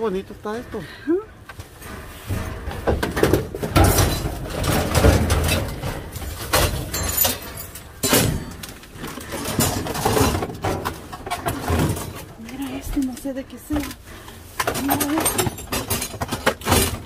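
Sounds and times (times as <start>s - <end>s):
objects knocking and clinking: 2.4s - 14.0s, 14.6s - 17.0s.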